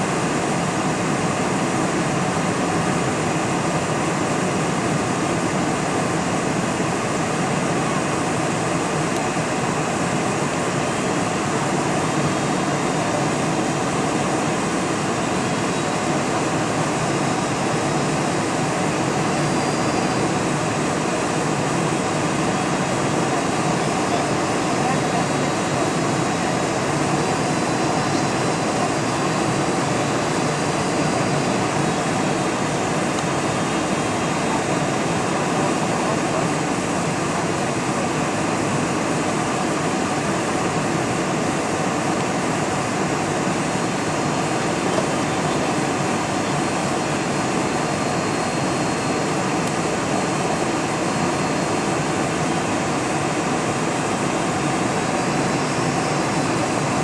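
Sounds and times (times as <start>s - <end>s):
jet engines: 0.0s - 57.0s
rushing air: 0.0s - 57.0s.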